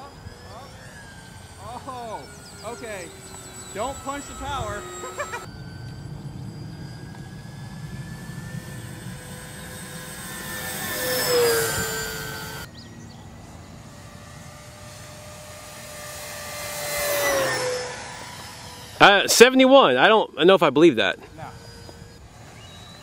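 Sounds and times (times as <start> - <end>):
model plane motors whining: 0.0 - 23.0.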